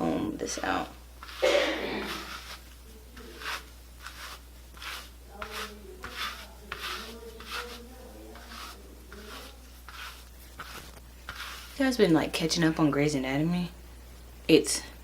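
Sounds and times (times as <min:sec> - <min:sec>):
comb scratching through hair: 0:00.4 - 0:12.6.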